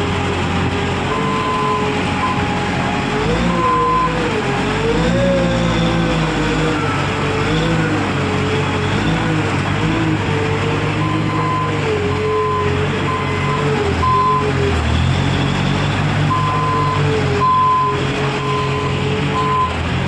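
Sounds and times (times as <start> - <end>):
loader engine running: 0.0 - 20.0
reversing alarm beeping: 1.1 - 9.9, 10.9 - 19.8.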